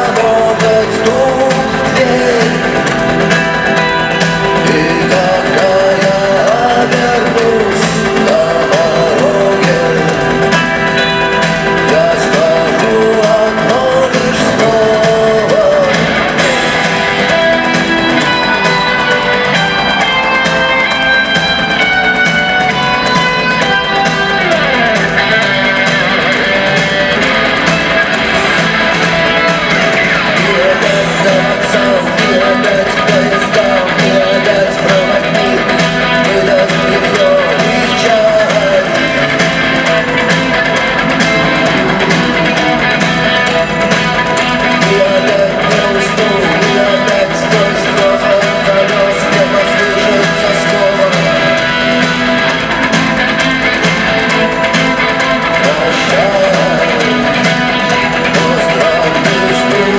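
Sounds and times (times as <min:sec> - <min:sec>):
bass: 0:00.0 - 0:59.9
drums: 0:00.0 - 0:59.9
electric guitars: 0:00.0 - 0:59.9.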